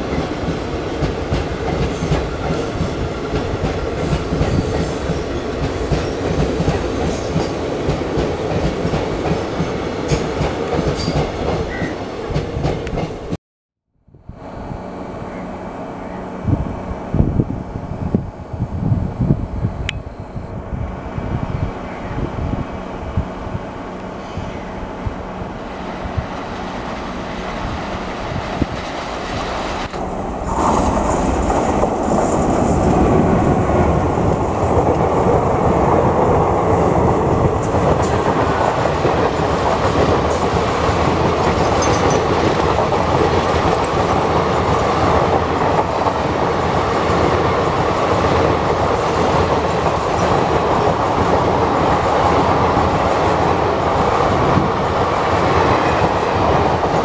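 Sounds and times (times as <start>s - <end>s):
passenger train passing: 0.0s - 13.4s, 14.2s - 57.0s.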